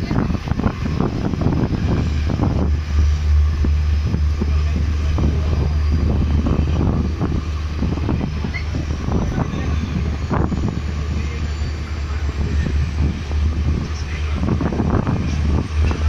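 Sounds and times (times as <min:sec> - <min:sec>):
train wheels rumbling: 0:00.0 - 0:16.0
wind buffeting microphone: 0:00.0 - 0:16.0.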